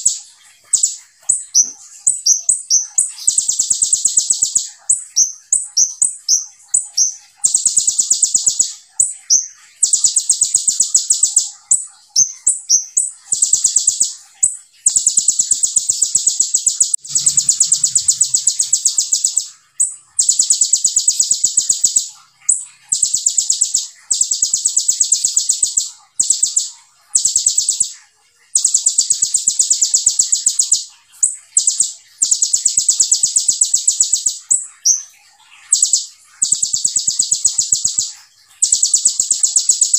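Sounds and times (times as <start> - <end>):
bird singing rapid rattling trills: 0.0 - 39.9.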